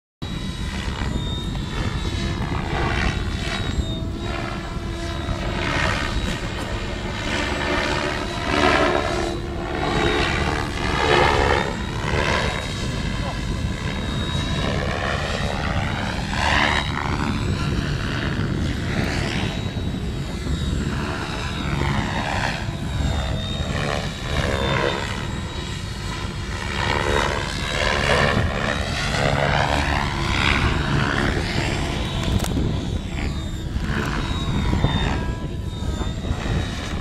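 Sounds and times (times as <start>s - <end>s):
model helicopter rotor sweeping pitch: 0.2s - 37.0s.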